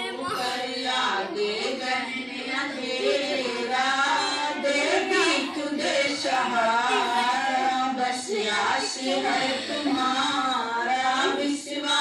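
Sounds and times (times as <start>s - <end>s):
woman singing devotional song: 0.0s - 12.0s.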